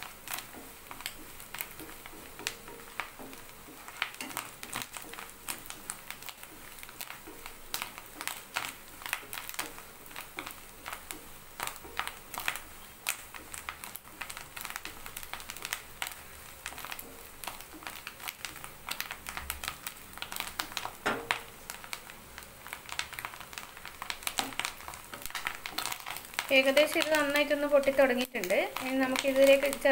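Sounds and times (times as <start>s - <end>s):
food frying in oil: 0.0s - 29.9s.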